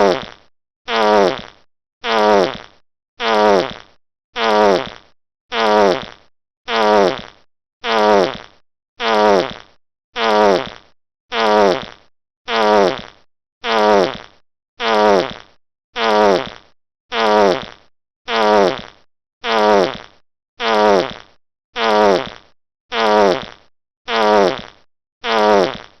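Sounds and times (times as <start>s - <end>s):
wet fart: 0.0s - 26.0s.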